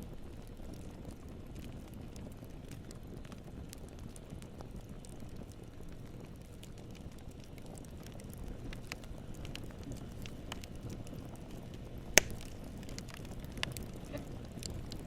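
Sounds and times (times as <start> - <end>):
campfire flames rumbling: 0.0 - 15.0
fire crackles and pops: 0.0 - 15.0.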